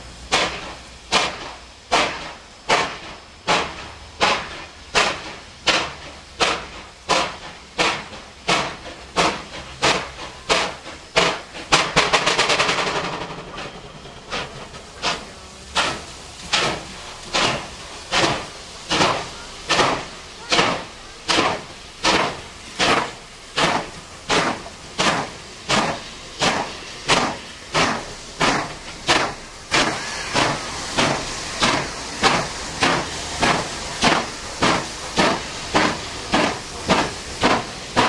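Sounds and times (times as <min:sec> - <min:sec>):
steam hissing from drain cocks: 0:00.0 - 0:38.0
steam locomotive exhaust beats: 0:00.0 - 0:38.0.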